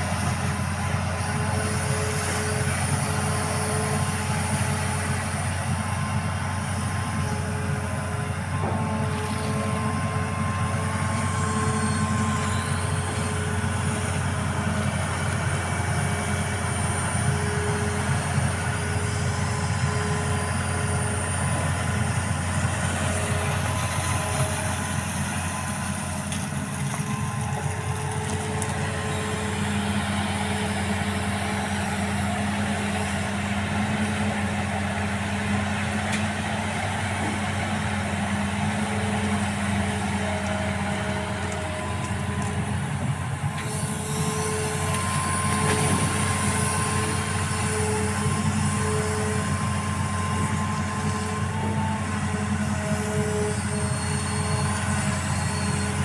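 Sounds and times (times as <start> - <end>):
excavator diesel engine drone: 0.0 - 56.0
high steady whines: 0.0 - 56.0.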